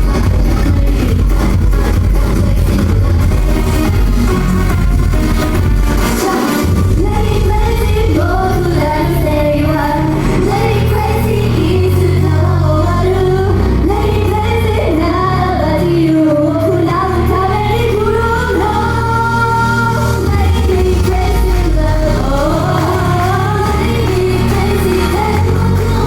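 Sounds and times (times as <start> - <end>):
loud backing track with bass: 0.0 - 26.0
woman singing pop song: 0.0 - 26.0.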